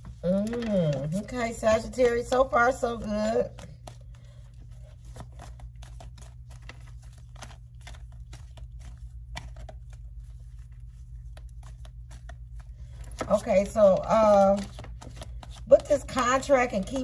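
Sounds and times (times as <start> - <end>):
cards being shuffled: 0.0 - 17.0
steady low hum: 0.0 - 17.0.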